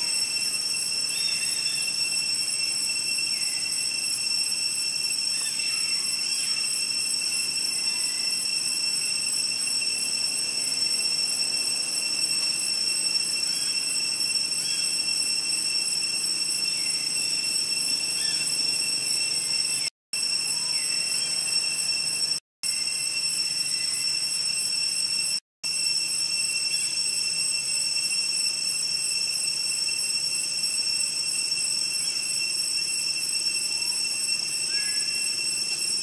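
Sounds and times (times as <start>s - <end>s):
insect chorus drone: 0.0s - 36.0s.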